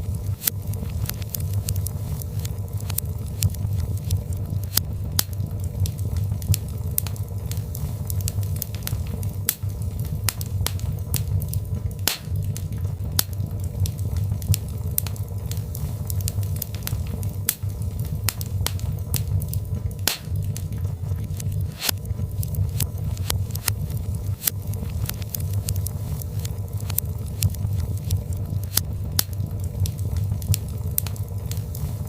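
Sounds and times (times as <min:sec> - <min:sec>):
logs crackling with pops: 0:00.0 - 0:32.0
low rumble of fire: 0:00.0 - 0:32.0.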